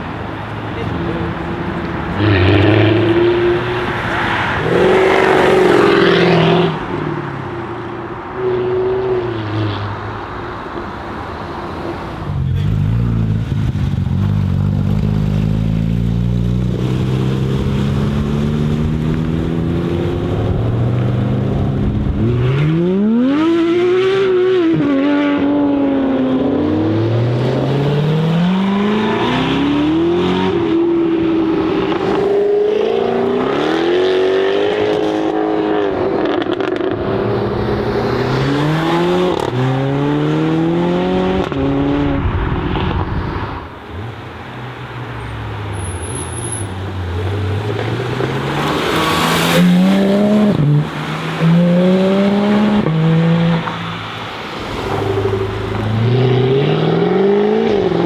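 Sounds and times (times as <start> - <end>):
car accelerating through gears: 0.0 - 13.5, 14.2 - 44.1, 47.1 - 58.0
car engine revving: 0.0 - 44.3, 45.5 - 58.0.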